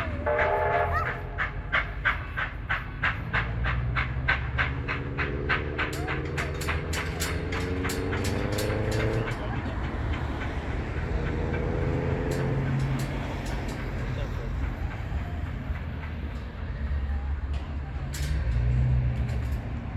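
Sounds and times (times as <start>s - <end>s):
steam locomotive exhaust chuffing: 0.0s - 19.9s
train rumble: 0.0s - 19.9s.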